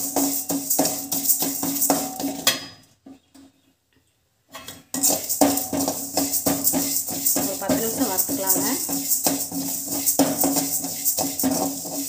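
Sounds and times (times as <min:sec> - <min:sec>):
metal spoon scraping a pan: 0:00.0 - 0:02.8, 0:04.5 - 0:12.0.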